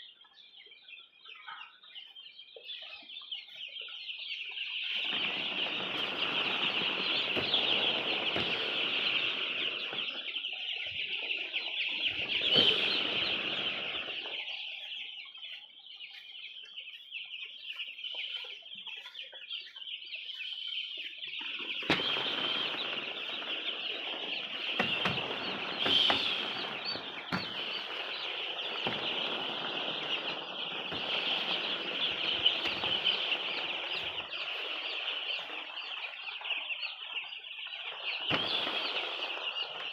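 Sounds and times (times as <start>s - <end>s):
chickens peeping and clucking: 0.0s - 39.8s.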